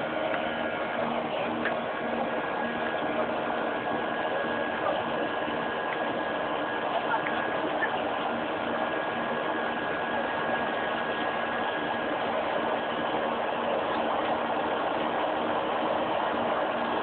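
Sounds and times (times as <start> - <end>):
airplane cabin engine noise: 0.0 - 17.0
faint constant hums: 0.0 - 17.0.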